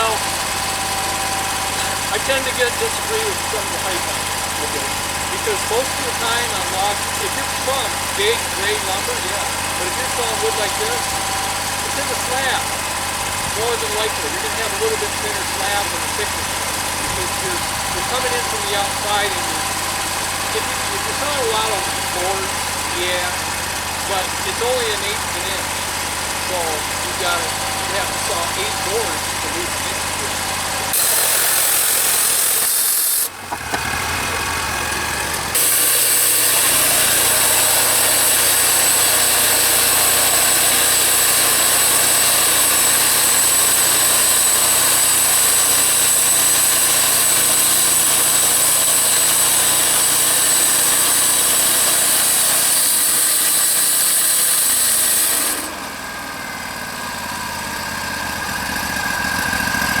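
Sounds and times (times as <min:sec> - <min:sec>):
band blade cutting log: 0:00.0 - 0:23.4, 0:24.0 - 0:56.0
sawmill engine humming: 0:00.0 - 1:00.0.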